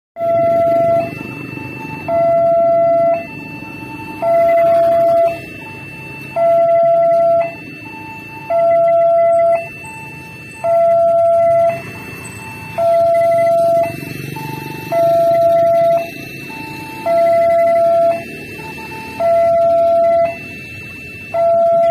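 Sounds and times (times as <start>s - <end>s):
level crossing two-tone alarm: 0.2s - 21.9s.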